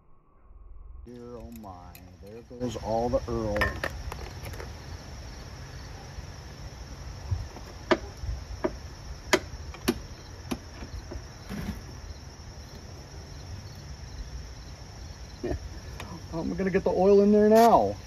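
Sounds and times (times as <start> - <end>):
crickets chirring: 1.1 - 18.0.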